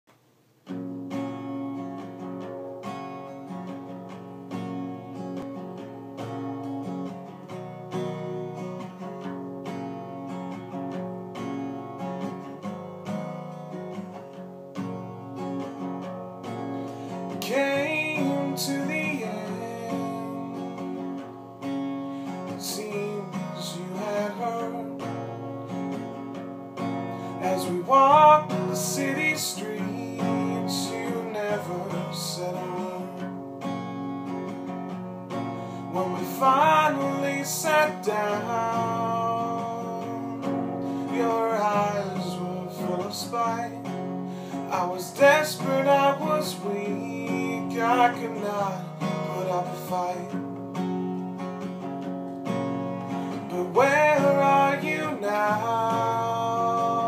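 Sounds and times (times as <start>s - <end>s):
acoustic guitar playing: 0.1s - 57.0s
sliding guitar melody: 0.6s - 57.0s.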